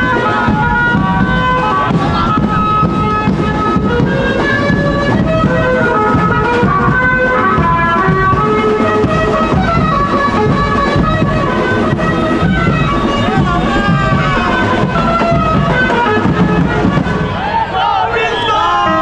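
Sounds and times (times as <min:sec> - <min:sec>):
heavy drumming: 0:00.0 - 0:17.6
street band melody: 0:00.0 - 0:19.0.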